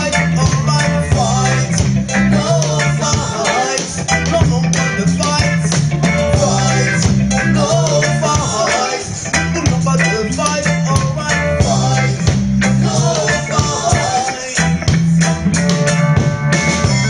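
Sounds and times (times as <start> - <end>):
person singing: 0.0 - 14.9
guitar: 0.0 - 17.0
heavy bass line: 0.0 - 17.0
reggae band playing live: 0.0 - 17.0
steady drum beat: 0.0 - 17.0.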